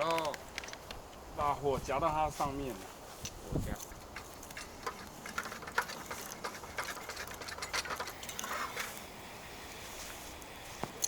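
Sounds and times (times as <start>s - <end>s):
campfire embers crackling: 0.0s - 11.0s.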